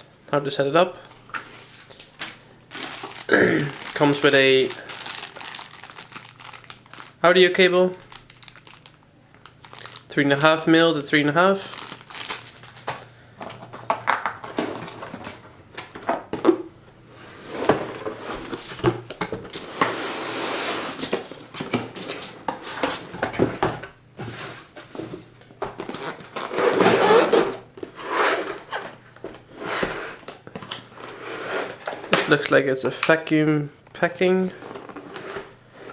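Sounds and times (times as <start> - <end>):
cardboard and plastic rustling: 1.1 - 10.1, 11.6 - 16.6, 17.3 - 32.5, 34.4 - 35.9.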